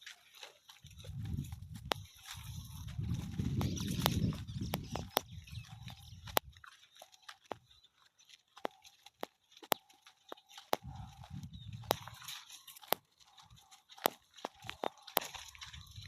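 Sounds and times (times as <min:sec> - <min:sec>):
footsteps crunching on dry path: 0:00.0 - 0:16.0.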